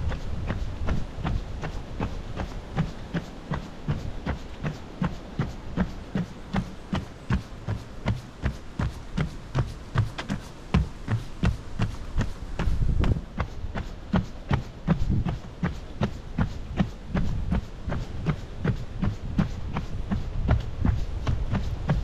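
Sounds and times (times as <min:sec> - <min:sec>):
running footsteps on a boardwalk: 0:00.0 - 0:22.0.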